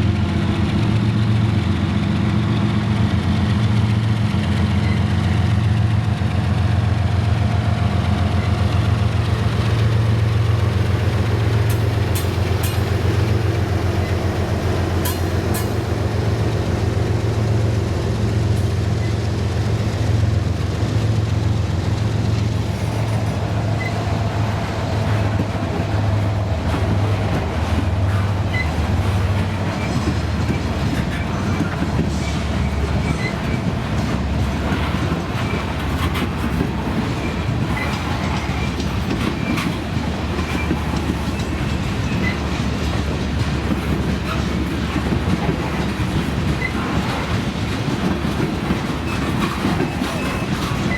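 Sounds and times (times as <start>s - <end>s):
diesel locomotive engine drone: 0.0s - 50.9s
train wheels clacking on rails: 0.0s - 50.9s.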